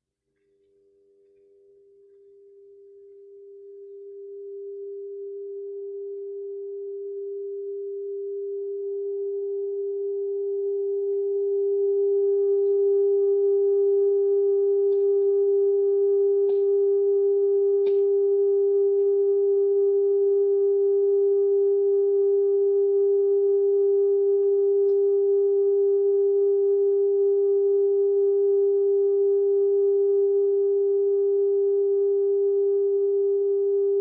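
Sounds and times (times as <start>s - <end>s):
steady held tone: 0.4s - 34.0s.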